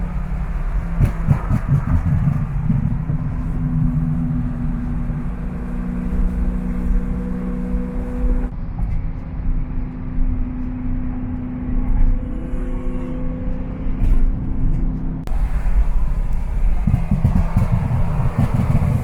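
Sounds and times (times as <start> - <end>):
car engine drone: 0.0 - 19.0
road rumble: 0.0 - 19.0.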